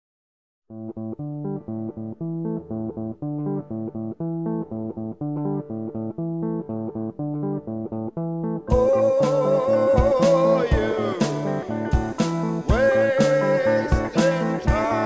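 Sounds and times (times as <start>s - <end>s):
bass guitar: 0.7s - 15.0s
plucked guitar: 0.7s - 15.0s.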